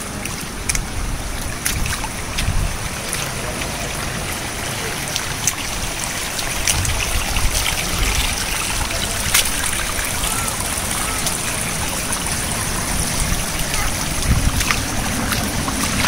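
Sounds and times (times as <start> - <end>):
stream trickling over rocks: 0.0 - 16.0.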